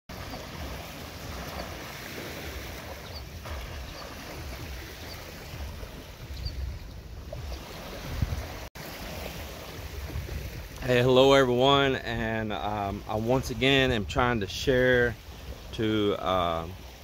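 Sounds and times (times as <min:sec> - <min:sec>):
water washing at shore: 0:00.1 - 0:17.0
wind buffeting microphone: 0:00.1 - 0:17.0.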